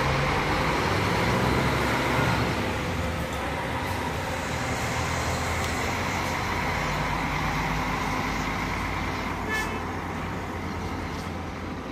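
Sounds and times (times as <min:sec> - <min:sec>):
diesel bus engine running: 0:00.0 - 0:11.9
road noise: 0:00.0 - 0:11.9.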